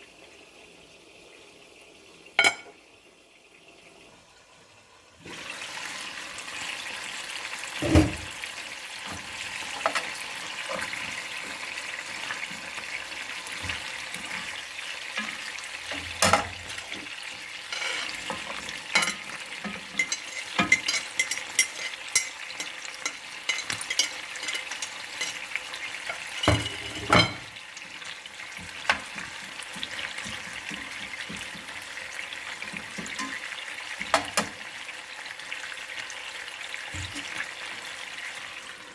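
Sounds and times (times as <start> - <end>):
food sizzling in oil: 2.3 - 3.2, 3.8 - 38.9.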